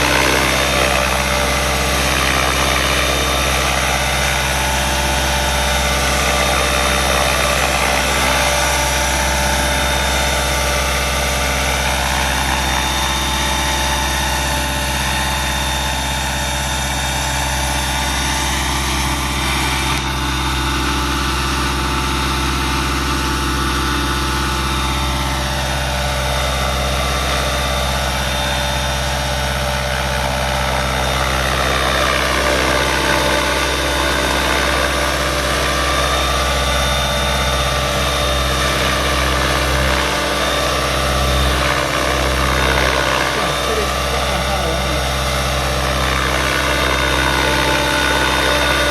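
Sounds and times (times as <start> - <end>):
helicopter rotor and motor drone: 0.0 - 48.9.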